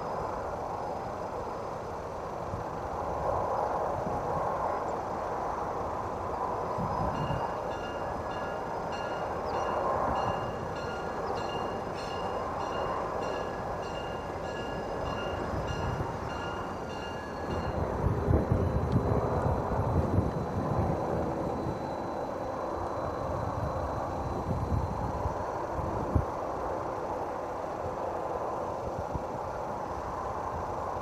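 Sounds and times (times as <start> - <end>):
train rumbling by: 0.0 - 31.0.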